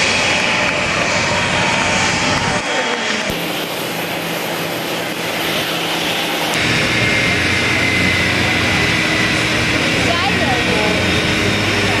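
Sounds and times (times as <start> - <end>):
aircraft engine rushing: 0.0 - 12.0
thin steady whine: 0.0 - 12.0.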